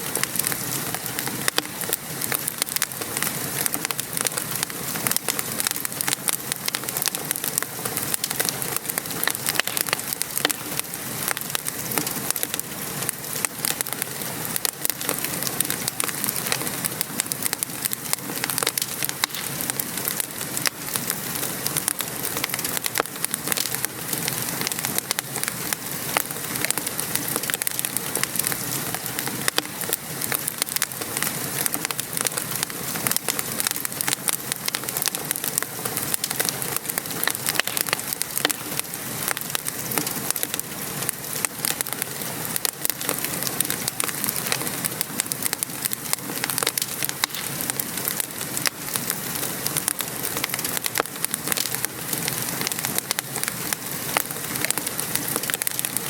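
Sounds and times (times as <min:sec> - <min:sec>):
steady rain falling: 0:00.0 - 0:56.0
wood fire crackling: 0:00.0 - 0:56.0.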